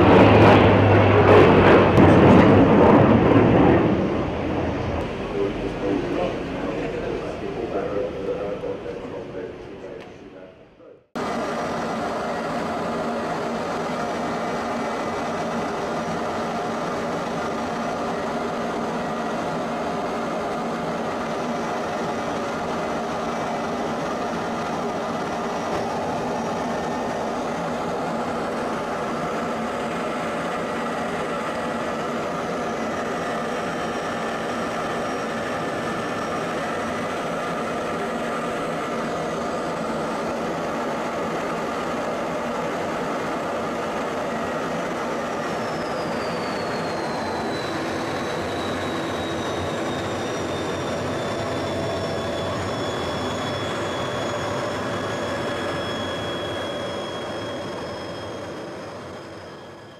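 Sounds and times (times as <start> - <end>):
high turbine whines: 0.0 - 59.9
jet engine roar: 0.0 - 59.9.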